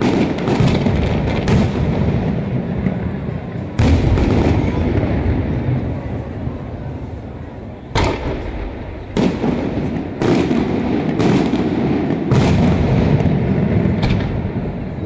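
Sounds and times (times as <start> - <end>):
rumbling echo: 0.0 - 15.0.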